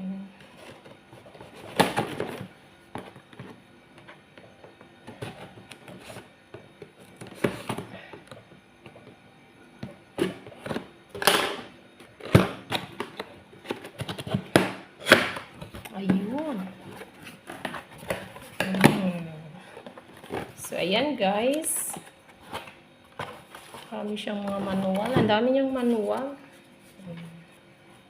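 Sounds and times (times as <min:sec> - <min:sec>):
cardboard packaging being handled: 0:00.4 - 0:09.2, 0:10.1 - 0:20.9, 0:21.5 - 0:27.0.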